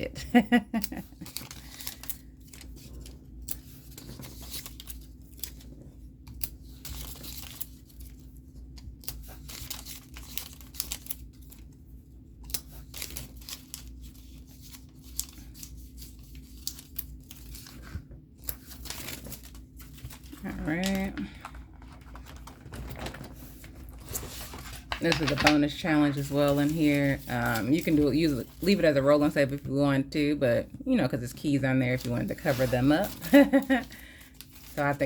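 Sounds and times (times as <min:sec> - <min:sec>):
stickers peeling and crinkling: 0:00.8 - 0:29.5.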